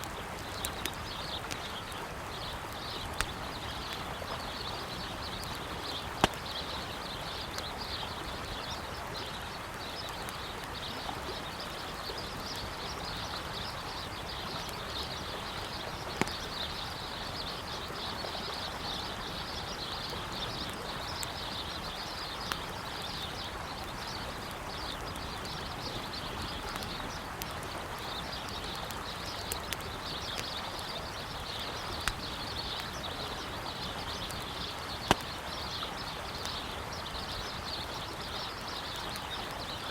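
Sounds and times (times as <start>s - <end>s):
campfire crackling and popping: 0.0s - 39.9s
birds chirping: 0.1s - 39.9s.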